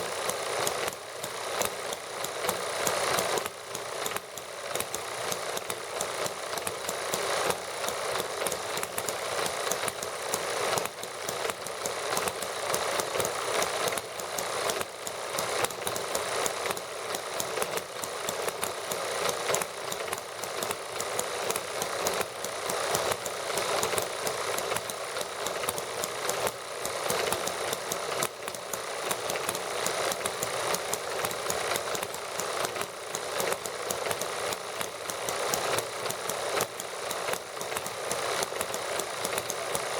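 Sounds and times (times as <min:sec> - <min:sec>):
toy model engines running: 0:00.0 - 0:39.9.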